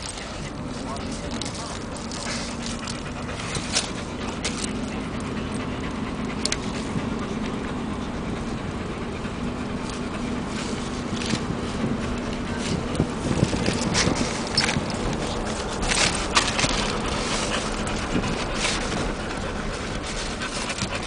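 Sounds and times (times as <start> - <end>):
car drone: 0.0 - 21.0
dog panting: 0.0 - 21.0.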